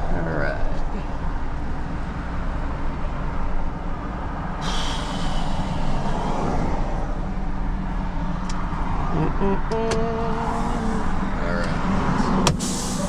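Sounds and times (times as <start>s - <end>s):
truck engine rumble: 0.0s - 13.0s.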